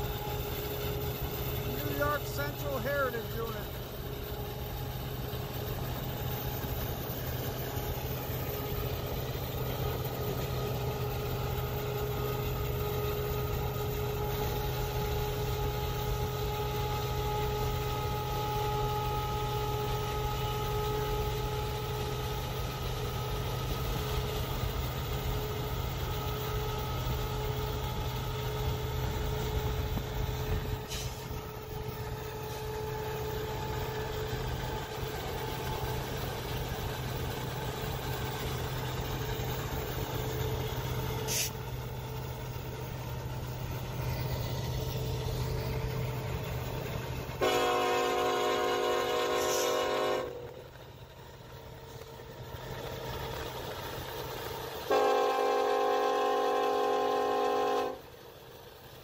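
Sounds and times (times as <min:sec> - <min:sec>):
steady whine: 0:00.0 - 0:55.1
diesel locomotive engine rumble: 0:00.0 - 0:59.0.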